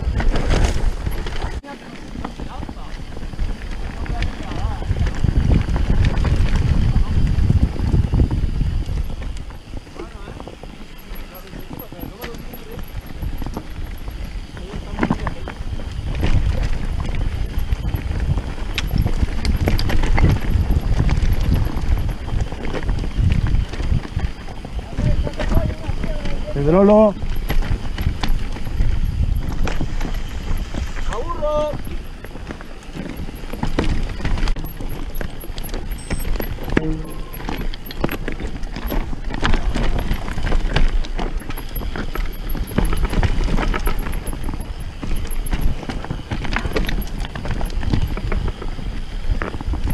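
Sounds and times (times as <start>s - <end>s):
bike rattling and clicking: 0.0s - 49.9s
bike tyres rumbling on rocky trail: 0.0s - 49.9s
wind on microphone: 0.0s - 49.9s.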